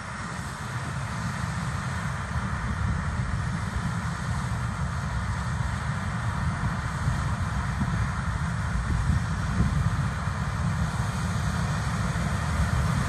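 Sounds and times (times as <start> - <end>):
distant combine harvester rumble: 0.0 - 13.0.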